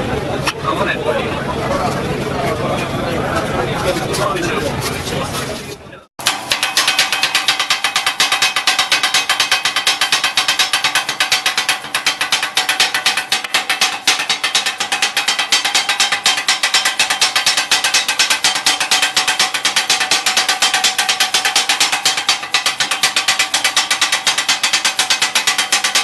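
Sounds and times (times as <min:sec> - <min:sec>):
metal scrapers chopping on griddle: 0:03.9 - 0:26.0.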